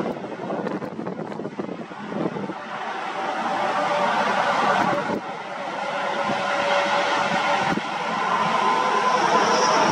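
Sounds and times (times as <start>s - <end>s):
jet engines rushing with whine: 0.0s - 9.9s.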